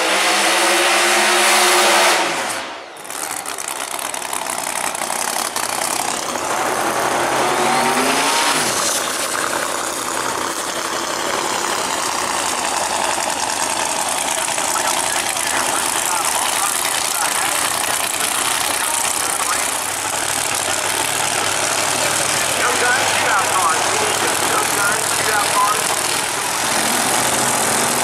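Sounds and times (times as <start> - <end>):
drag racing engines revving: 0.0 - 28.0.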